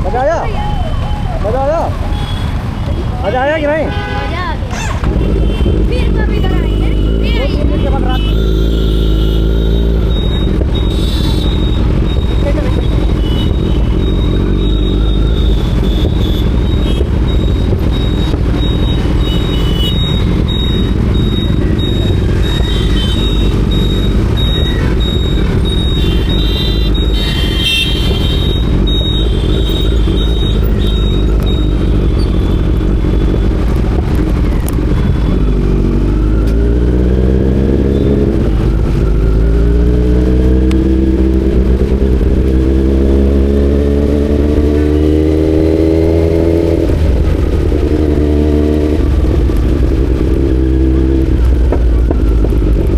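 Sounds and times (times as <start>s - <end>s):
wind and road rumble: 0.0s - 52.9s
motorcycle engine accelerating: 4.7s - 52.9s.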